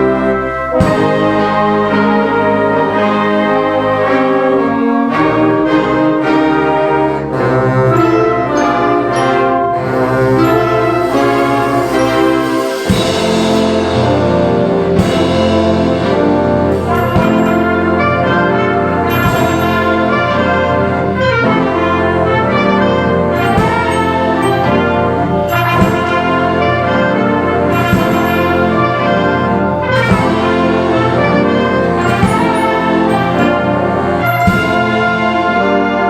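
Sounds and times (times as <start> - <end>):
percussion strikes: 0.0 - 3.1, 7.3 - 36.0
concert band playing brass piece: 0.0 - 36.0.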